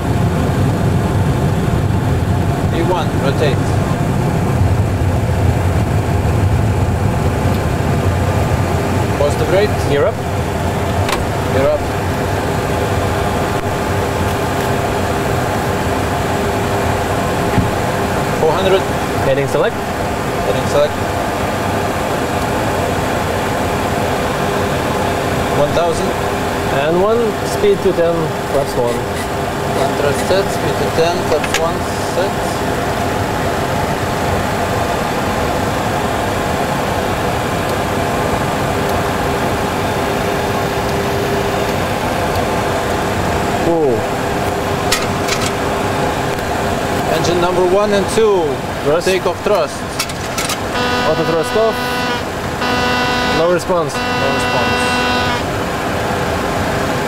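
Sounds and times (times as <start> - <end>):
faint steady hum: 0.0 - 57.0
jet engine and airflow noise: 0.0 - 57.0.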